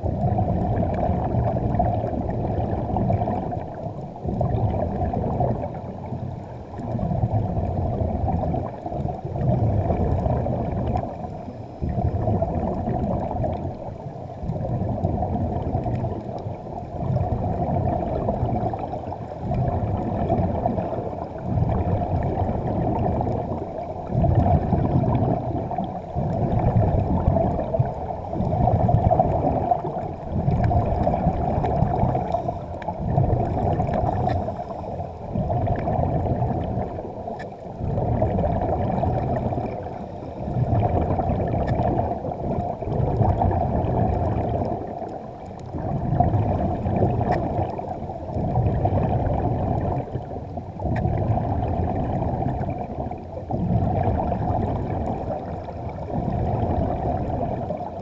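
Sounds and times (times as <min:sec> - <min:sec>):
muffled underwater rumble: 0:00.0 - 0:58.0.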